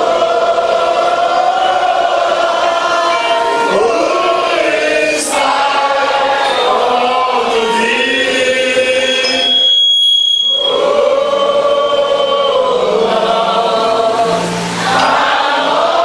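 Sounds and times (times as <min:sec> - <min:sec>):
church choir singing: 0:00.0 - 0:16.0.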